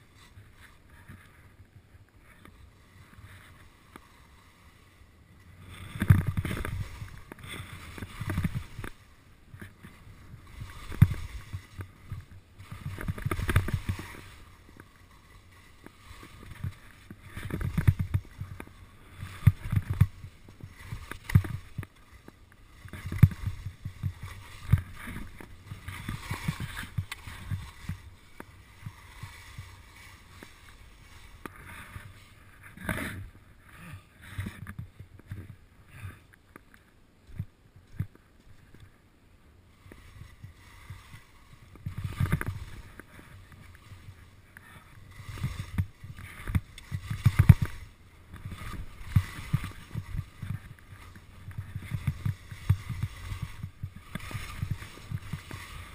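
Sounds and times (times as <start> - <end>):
skis thumping on bumps: 0.0 - 39.0, 39.7 - 55.9
skis scraping on snow: 0.0 - 55.9.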